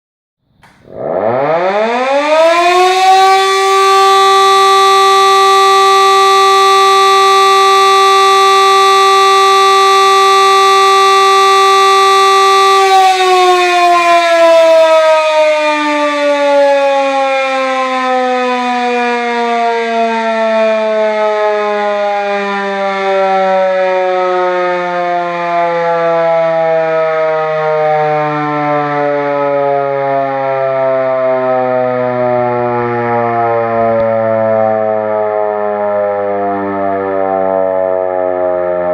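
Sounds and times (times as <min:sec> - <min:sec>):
air-raid siren: 0:00.5 - 0:38.9.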